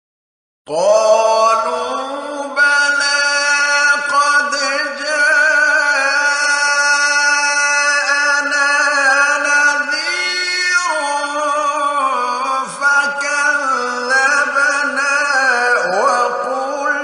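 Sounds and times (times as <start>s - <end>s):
man reciting melodically: 0.7s - 17.0s.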